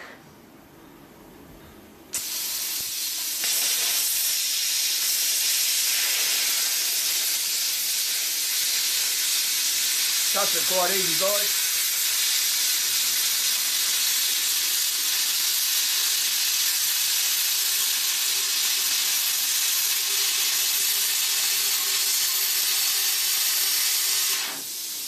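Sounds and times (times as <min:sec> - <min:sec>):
plasma cutter hissing: 0:02.2 - 0:25.0.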